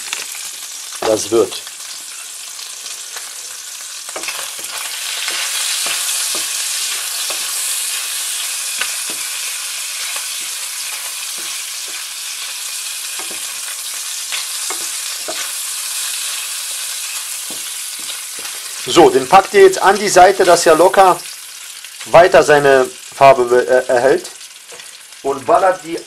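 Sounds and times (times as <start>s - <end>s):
bacon sizzling in a frying pan: 0.0s - 26.0s.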